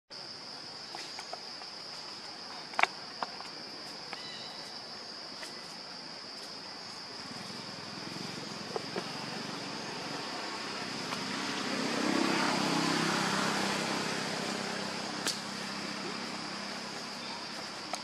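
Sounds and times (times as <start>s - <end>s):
insects buzzing: 0.1s - 18.0s.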